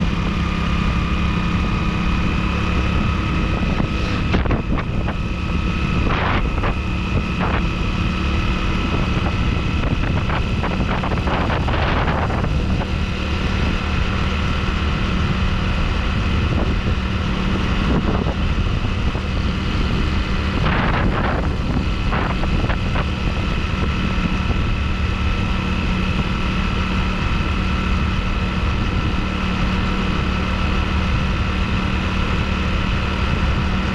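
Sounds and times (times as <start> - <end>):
motorcycle engine running: 0.0 - 33.9
wind on microphone: 0.0 - 33.9.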